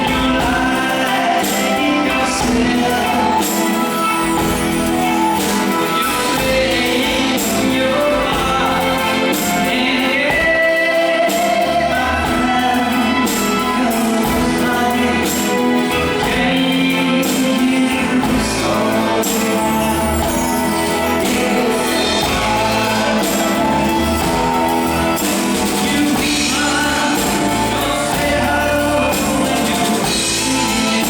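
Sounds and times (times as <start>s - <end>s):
lead vocals singing: 0.0s - 31.0s
live pop band playing: 0.0s - 31.0s.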